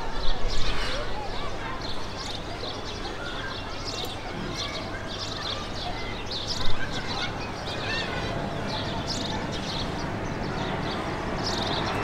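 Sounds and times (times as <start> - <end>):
outdoor background noise: 0.0 - 12.0
birds chirping: 0.2 - 12.0.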